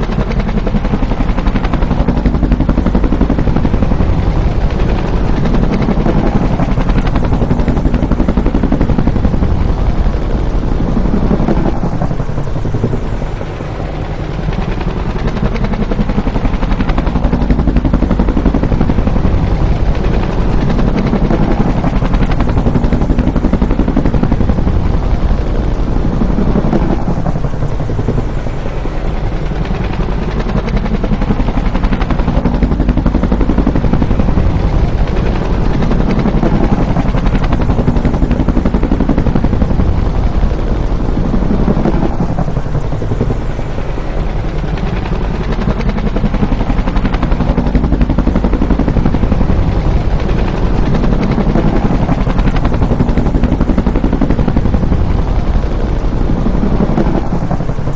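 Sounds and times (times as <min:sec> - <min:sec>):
helicopter flying by: 0:00.0 - 0:57.9.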